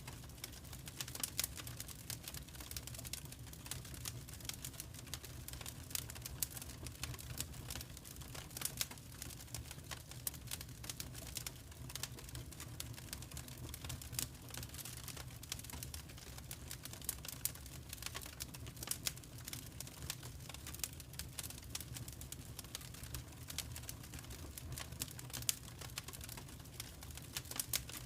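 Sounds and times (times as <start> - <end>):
fire crackling in fireplace: 0.0 - 28.0.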